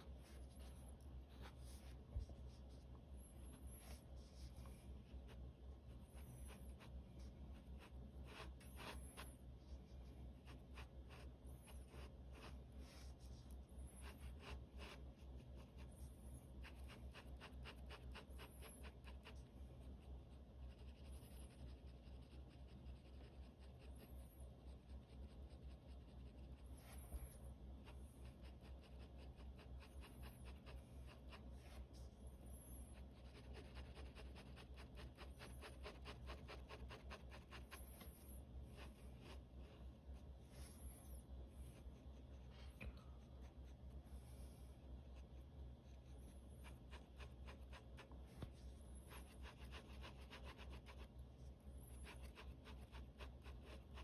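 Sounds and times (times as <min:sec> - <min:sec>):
pen scratching on paper: 0:00.0 - 0:09.3, 0:10.3 - 0:32.0, 0:32.8 - 0:39.5, 0:45.1 - 0:51.1, 0:52.0 - 0:54.0
steady low hum: 0:00.0 - 0:54.0.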